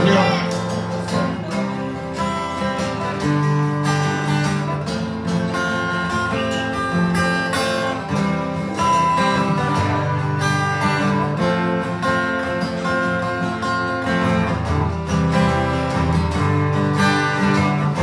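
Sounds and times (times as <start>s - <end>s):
acoustic guitar picking melody: 0.0s - 18.0s.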